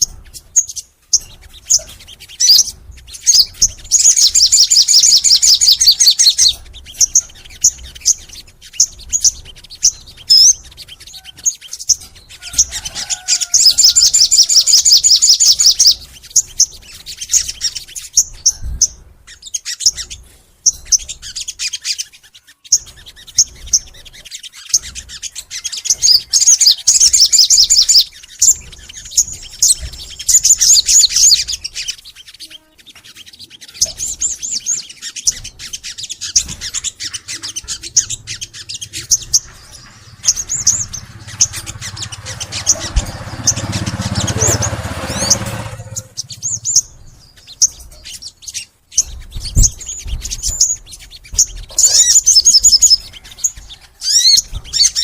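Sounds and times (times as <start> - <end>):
sharp bird chirps: 0.0 - 55.0
songbird chattering trills: 0.0 - 55.0.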